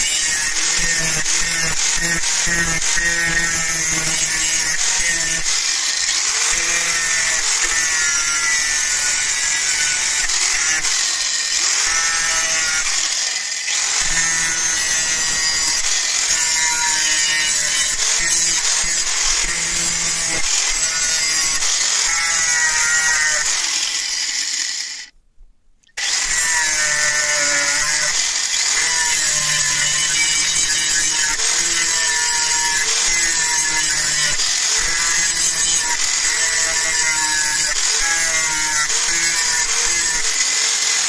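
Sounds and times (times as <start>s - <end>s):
angle grinder grinding steel: 0.0s - 25.1s, 26.0s - 41.0s.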